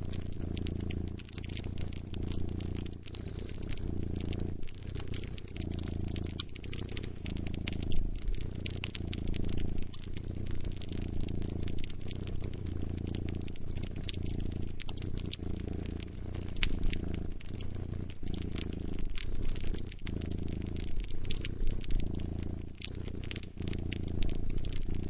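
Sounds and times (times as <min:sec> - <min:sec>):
cat purring: 0:00.0 - 0:25.0
wood fire crackling: 0:00.0 - 0:25.0.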